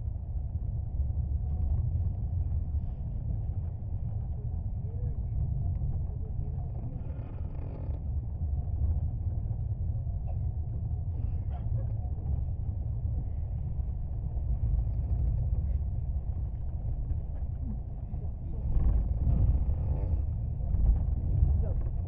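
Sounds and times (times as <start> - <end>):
train coach rumbling in motion: 0.0 - 22.0.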